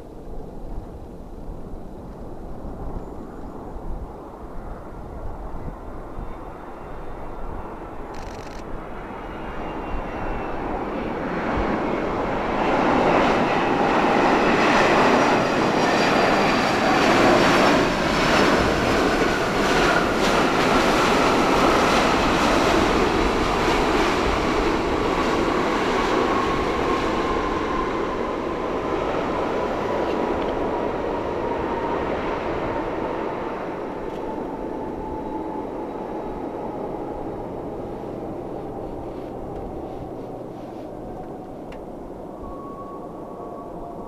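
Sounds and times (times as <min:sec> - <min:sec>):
jet engines roaring: 0:08.7 - 0:44.0.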